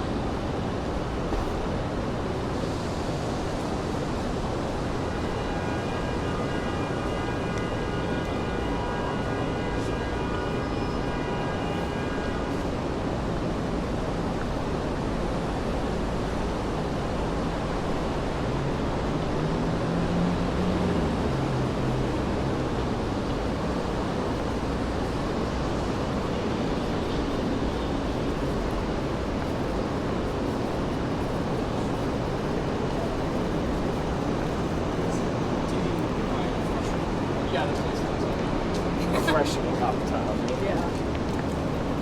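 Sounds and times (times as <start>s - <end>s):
city street noise: 0.0s - 42.0s
low rumble of traffic: 0.0s - 42.0s.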